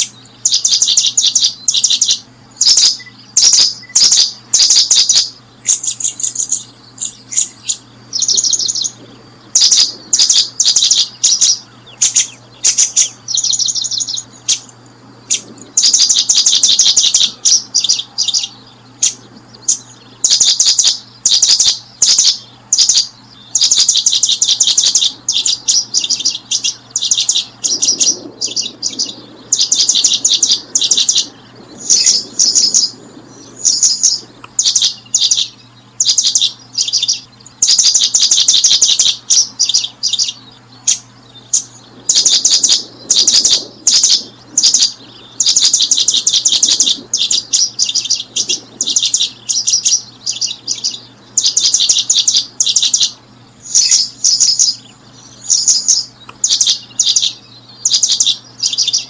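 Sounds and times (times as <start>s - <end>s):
faint low hum: 0.0s - 59.0s
small birds chirping: 0.0s - 59.0s.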